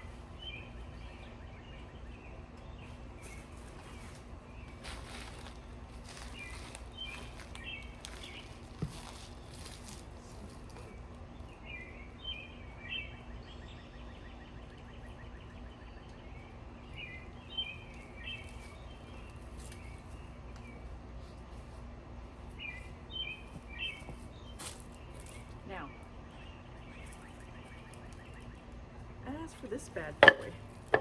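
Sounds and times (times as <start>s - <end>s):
low background hum: 0.0s - 31.0s
small birds chirping: 0.0s - 31.0s.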